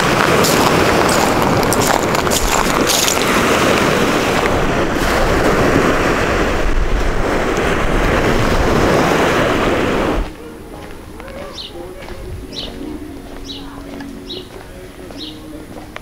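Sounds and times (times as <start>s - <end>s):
wind on microphone: 0.0s - 14.6s
sea waves washing onto beach: 0.0s - 16.0s.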